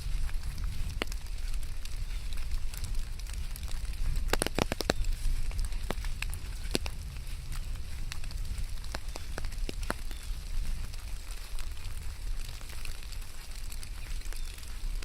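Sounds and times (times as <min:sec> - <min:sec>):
sharp raindrop taps: 0:00.0 - 0:15.0.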